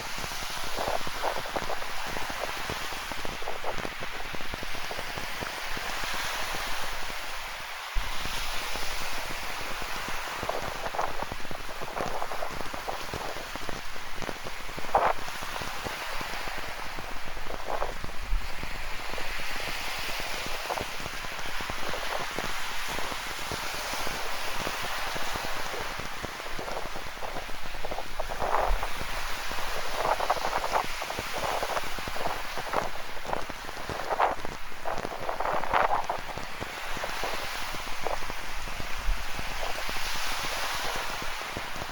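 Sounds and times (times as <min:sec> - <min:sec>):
ocean surf washing ashore: 0:00.0 - 0:41.9.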